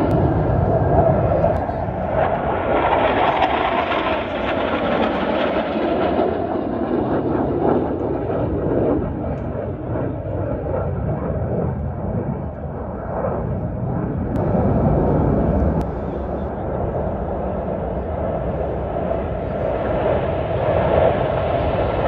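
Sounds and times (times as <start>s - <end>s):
jet engines roaring past: 0.0s - 22.0s.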